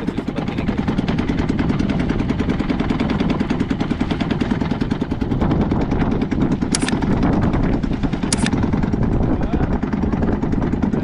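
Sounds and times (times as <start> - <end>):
small boat engine putt-putt: 0.0 - 11.0.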